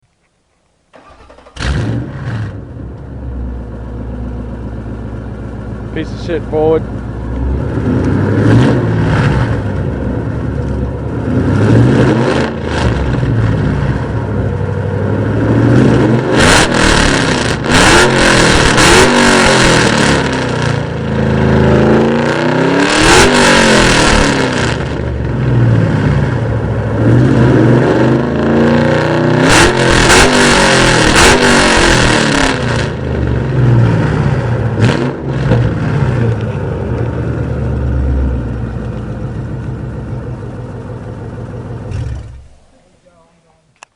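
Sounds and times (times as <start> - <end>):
car engine revving: 0.9 - 42.8.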